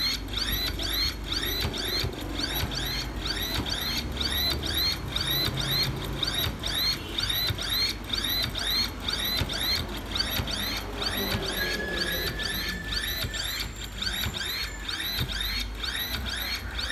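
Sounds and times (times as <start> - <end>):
stepper motor whining: 0.0 - 16.9.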